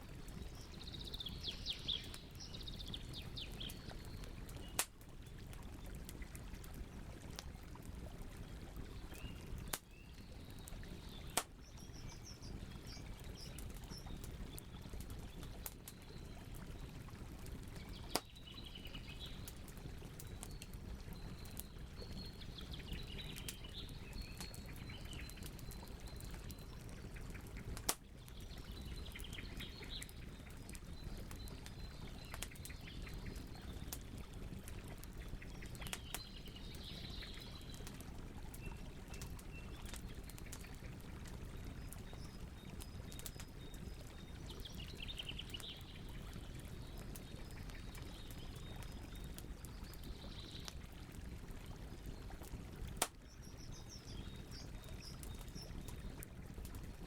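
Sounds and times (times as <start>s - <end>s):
campfire crackling and popping: 0.1s - 57.0s.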